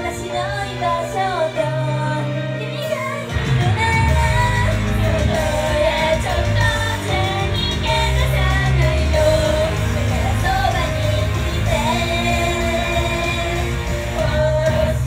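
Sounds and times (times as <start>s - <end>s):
pop-rock backing track: 0.0s - 15.0s
women singing: 0.0s - 15.0s.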